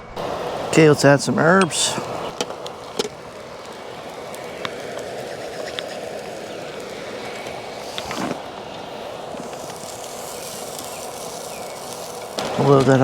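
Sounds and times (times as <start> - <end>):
sharp crackles: 0.0 - 13.0
butter sizzling in a pan: 0.2 - 13.0.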